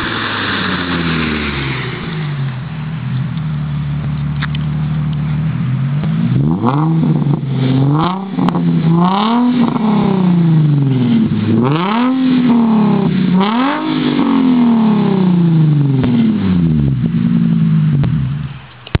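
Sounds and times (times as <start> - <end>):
car engine revving and idling: 0.0 - 18.7.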